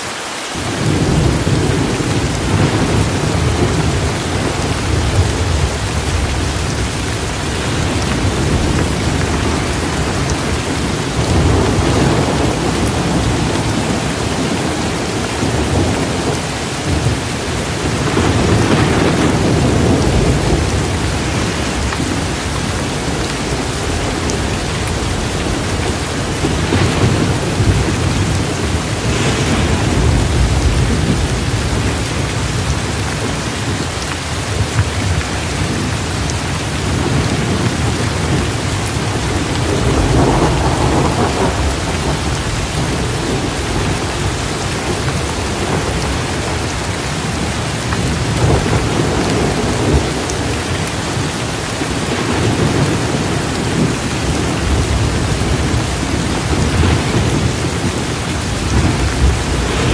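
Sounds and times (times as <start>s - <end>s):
steady rain: 0.0s - 59.9s
thunder rumbling: 0.6s - 59.9s.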